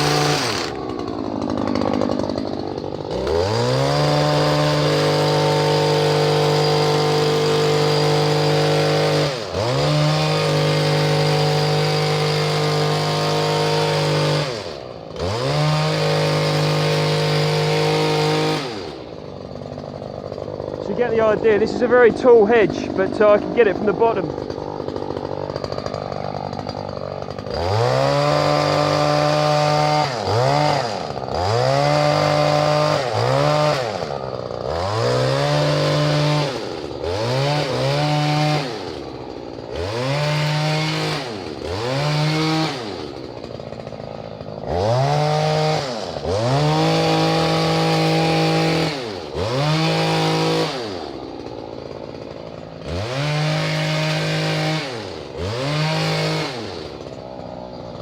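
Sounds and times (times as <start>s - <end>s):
hedge trimmer engine revving: 0.0s - 58.0s.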